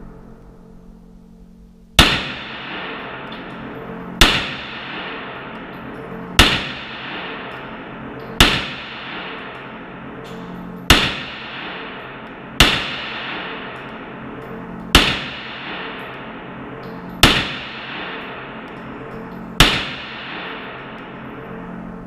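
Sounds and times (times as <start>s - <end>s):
pistol shots echoing: 2.0s - 18.7s, 19.6s - 21.3s.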